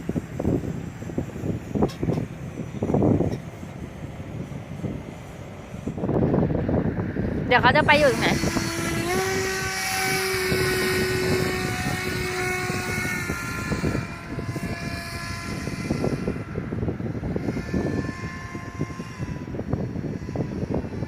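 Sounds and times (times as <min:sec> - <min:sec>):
model airplane engine droning: 0:00.0 - 0:21.0
wind buffeting microphone: 0:00.0 - 0:21.0.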